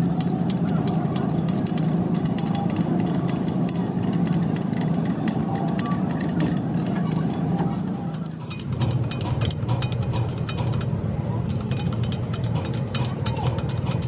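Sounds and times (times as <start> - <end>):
engine idling hum: 0.0 - 14.0
metallic clicks of a spanner: 0.0 - 14.0.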